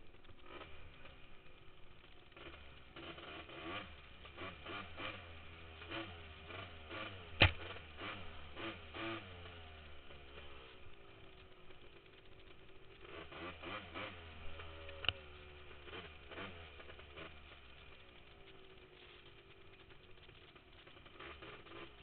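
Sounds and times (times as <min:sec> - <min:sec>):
two-stroke engine revving: 0:00.2 - 0:22.0.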